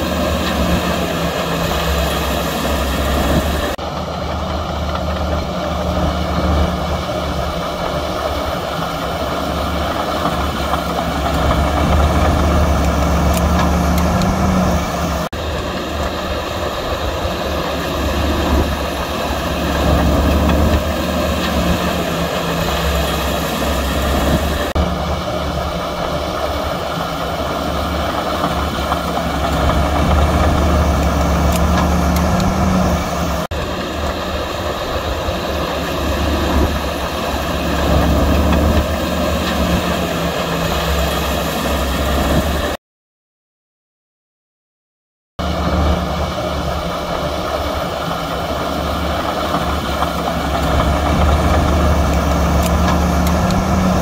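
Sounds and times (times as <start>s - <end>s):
heavy diesel machinery running: 0.0s - 42.8s, 45.4s - 54.0s.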